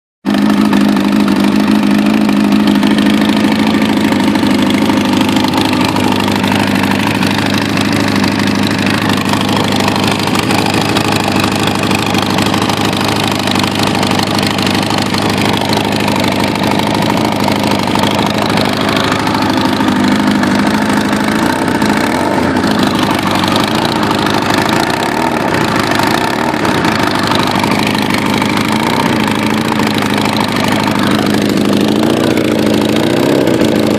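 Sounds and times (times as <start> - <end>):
leaking exhaust: 0.3 - 33.9
motorcycle engine idling: 0.3 - 33.9.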